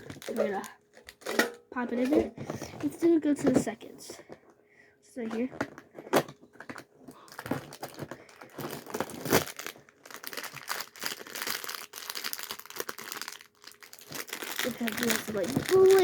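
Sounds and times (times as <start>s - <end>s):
cardboard and plastic crinkling: 0.0s - 4.3s, 5.2s - 16.0s.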